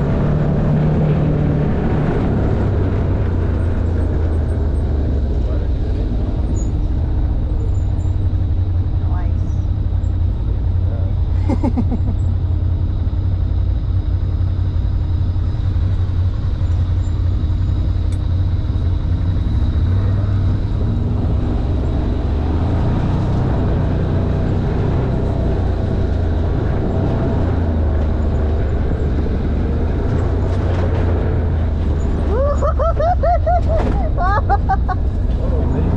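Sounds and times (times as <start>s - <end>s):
off-road vehicle engine droning: 0.0s - 35.9s
rattle from open cab: 0.0s - 35.9s.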